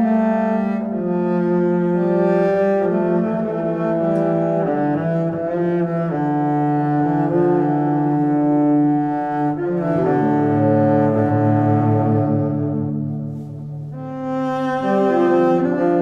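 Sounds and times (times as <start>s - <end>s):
low bowed strings: 0.0s - 16.0s.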